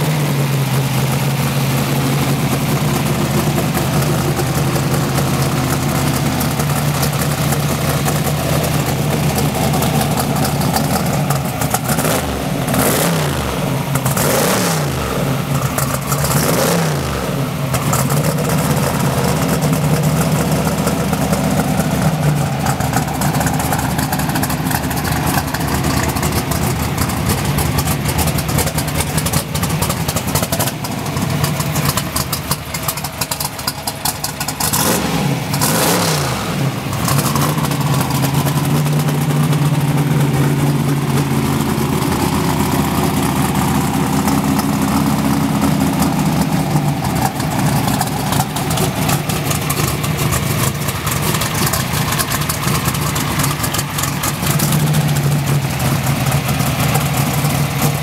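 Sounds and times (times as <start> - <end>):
engine revving: 0.0 - 58.0
race engine idling with crackling exhaust: 0.0 - 58.0.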